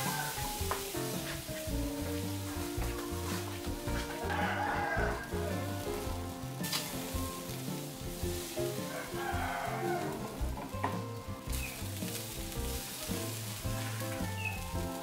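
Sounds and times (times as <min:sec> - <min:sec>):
background music: 0:00.0 - 0:15.0
meat sizzling on a grill: 0:00.0 - 0:15.0.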